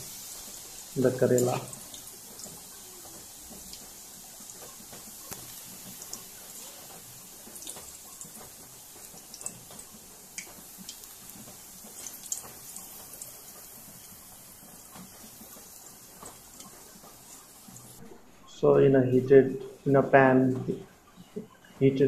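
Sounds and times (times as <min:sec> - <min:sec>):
vegetable slices frying in oil: 0:00.0 - 0:18.0.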